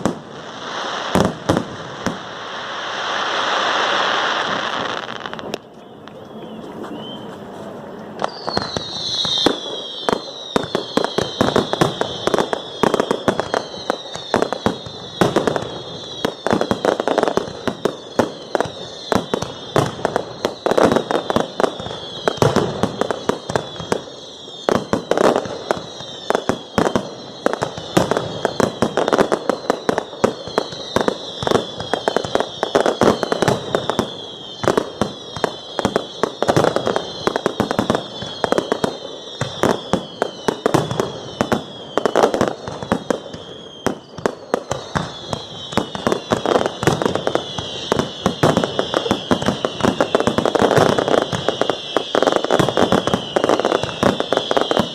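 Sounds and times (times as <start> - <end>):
fireworks bangs and crackling: 0.0 - 54.9
high whistle falling in pitch: 3.9 - 7.6, 8.2 - 54.9.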